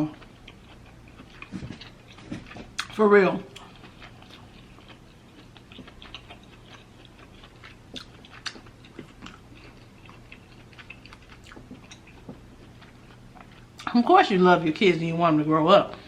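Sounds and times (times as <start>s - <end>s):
person chewing food: 0.0s - 13.9s
sharp cracks of chewing: 0.1s - 13.9s.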